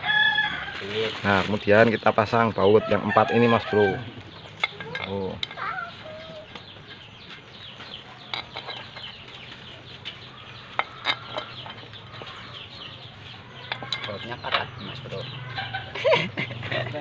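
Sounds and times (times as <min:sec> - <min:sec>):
chickens clucking: 0:01.0 - 0:17.0.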